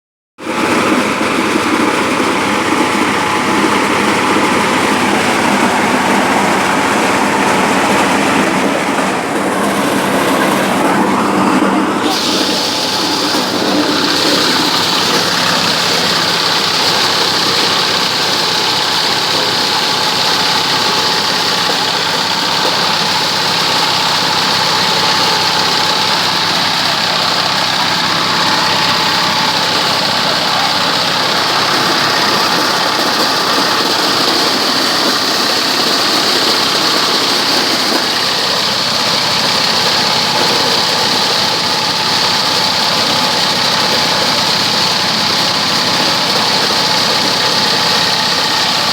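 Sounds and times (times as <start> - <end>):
corn sheller mechanical drone: 0.4 - 48.9.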